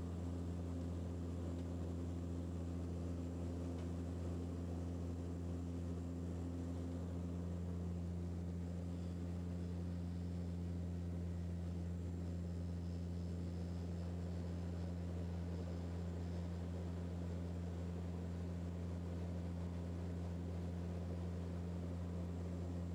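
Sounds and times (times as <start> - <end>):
aircraft engine drone in cabin: 0.0 - 22.9.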